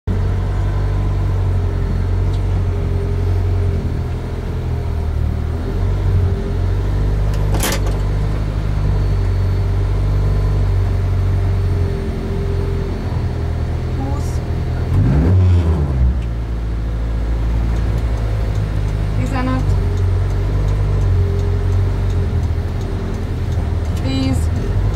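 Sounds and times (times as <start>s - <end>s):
car engine idling: 0.1s - 15.1s, 16.0s - 24.9s.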